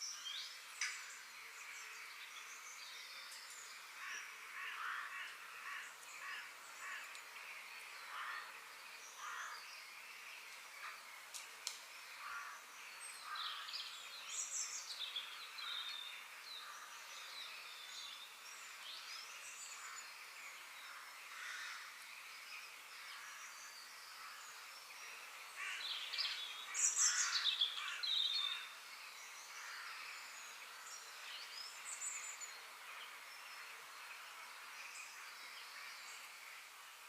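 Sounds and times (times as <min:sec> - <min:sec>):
steady outdoor hiss: 0:00.0 - 0:37.0
birds chirping and calling: 0:00.3 - 0:36.3.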